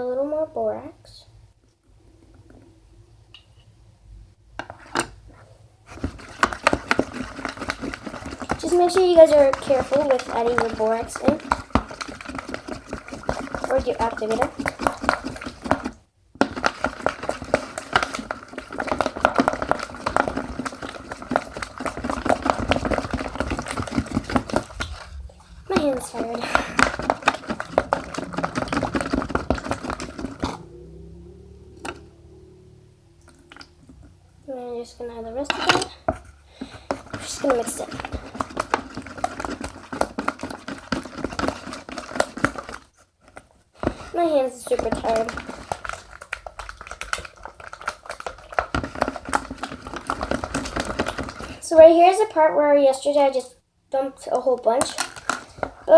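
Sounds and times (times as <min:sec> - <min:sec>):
slime being stirred: 0:04.6 - 0:31.1, 0:31.7 - 0:55.9.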